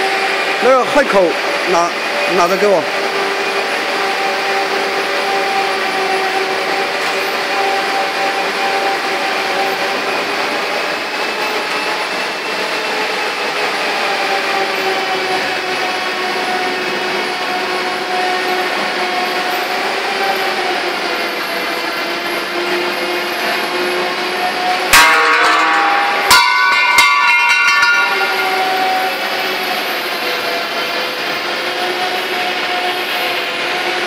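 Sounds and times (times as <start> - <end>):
pipe mill machinery drone: 0.0 - 34.0.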